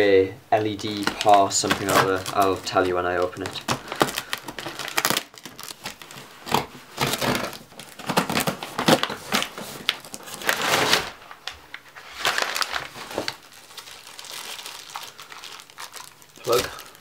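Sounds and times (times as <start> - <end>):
packing paper crinkling: 0.7 - 17.0.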